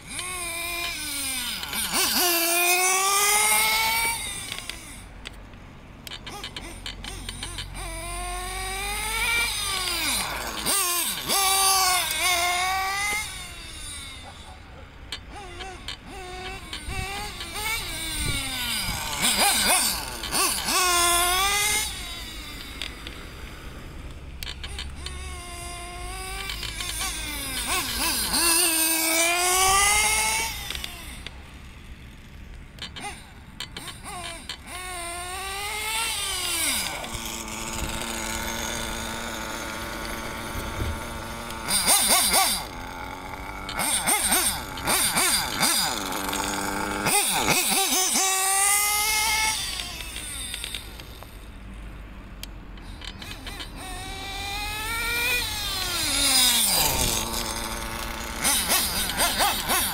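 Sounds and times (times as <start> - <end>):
rc car engine revving: 0.0 - 59.9.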